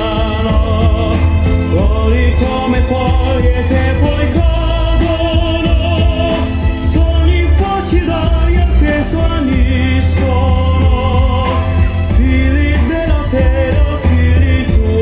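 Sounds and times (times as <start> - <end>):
music with heavy bass and beat: 0.0 - 15.0
person singing: 0.0 - 15.0.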